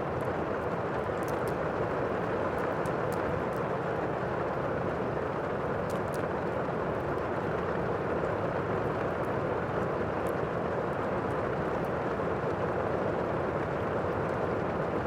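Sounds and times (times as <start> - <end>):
wood fire crackles: 0.0 - 15.0.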